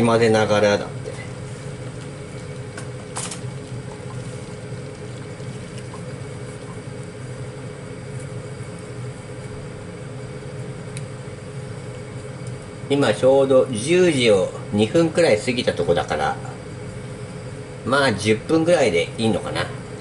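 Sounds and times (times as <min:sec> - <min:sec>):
fan hum: 0:00.0 - 0:20.0
low appliance drone: 0:00.0 - 0:20.0.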